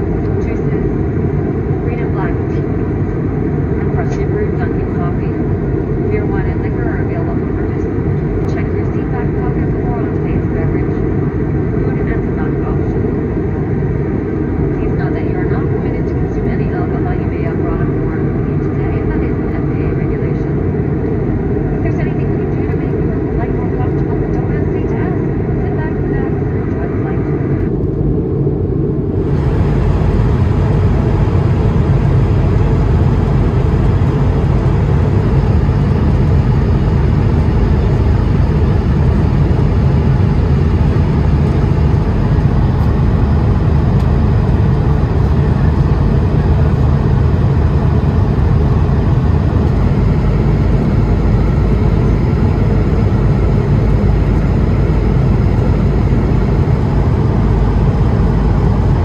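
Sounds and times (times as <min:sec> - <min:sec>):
airflow over fuselage: 0:00.0 - 0:59.0
jet engine roar in cabin: 0:00.0 - 0:59.0.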